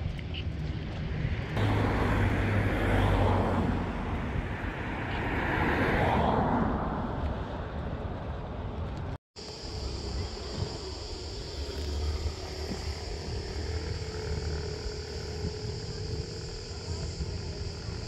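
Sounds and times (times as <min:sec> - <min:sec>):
watercraft engine drone: 0:00.0 - 0:18.0.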